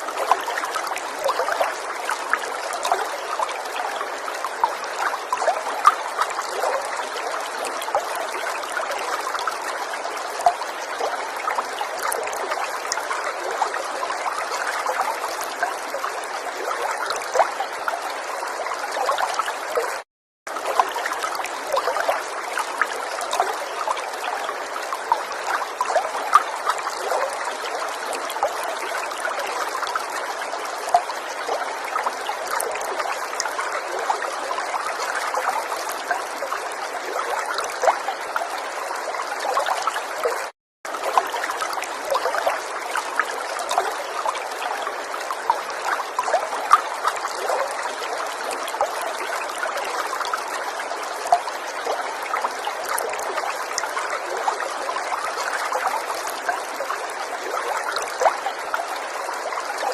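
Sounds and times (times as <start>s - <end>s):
river water babbling over stones: 0.0s - 59.9s.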